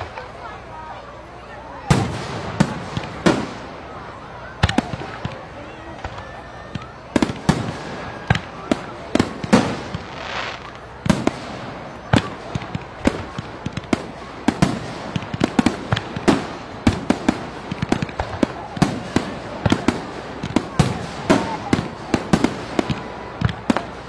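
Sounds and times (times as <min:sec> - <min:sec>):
fireworks bangs and cracks: 0:00.0 - 0:24.0
fireworks hissing rush: 0:00.0 - 0:24.0.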